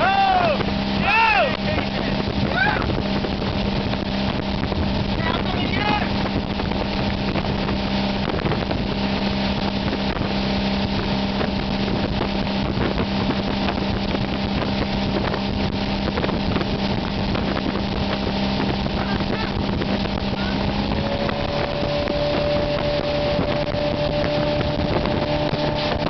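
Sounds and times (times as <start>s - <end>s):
boat engine running: 0.0s - 26.0s
water rushing and spray: 0.0s - 26.0s
wind buffeting microphone: 0.0s - 26.0s.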